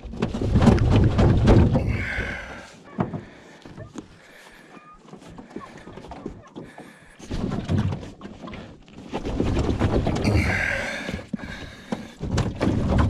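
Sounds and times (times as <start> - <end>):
boat seat thudding and rattling: 0.0 - 4.4, 5.0 - 13.0.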